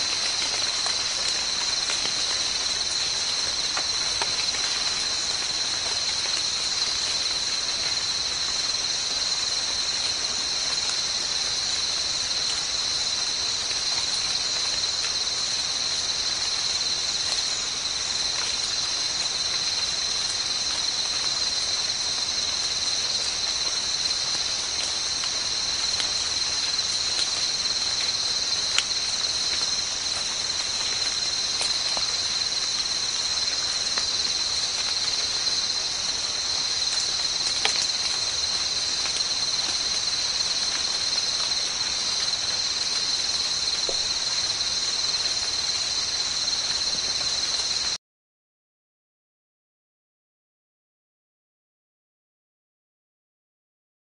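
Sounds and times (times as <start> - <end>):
insect chorus buzzing: 0.0 - 48.0.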